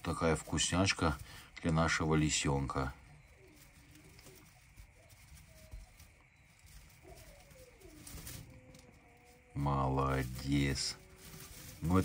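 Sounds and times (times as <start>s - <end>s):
faint animal whining: 0.5s - 12.0s.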